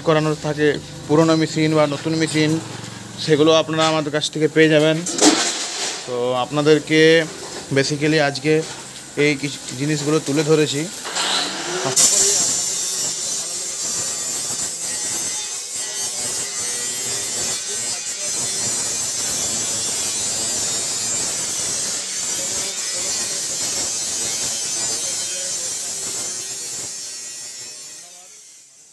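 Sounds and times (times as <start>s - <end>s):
machinery buzzing hiss: 0.0s - 28.9s.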